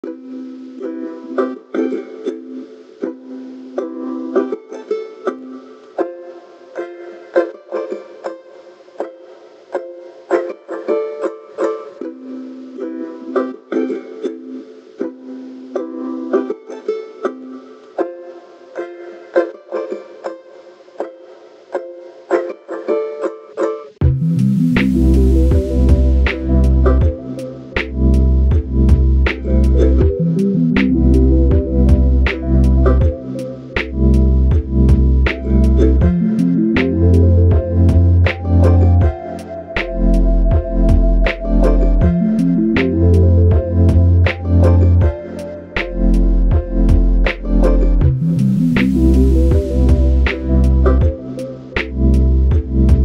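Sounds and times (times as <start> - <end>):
plucked-string melody: 0.0 - 53.0.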